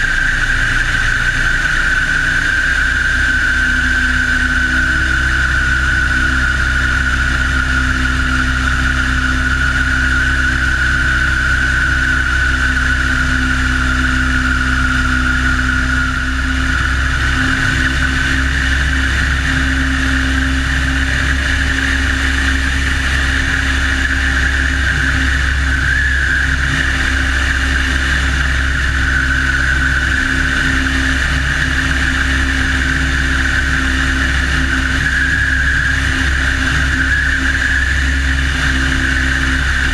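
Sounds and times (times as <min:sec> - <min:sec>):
propeller plane engine: 0:00.0 - 0:39.9
wind rushing over microphone: 0:00.0 - 0:39.9.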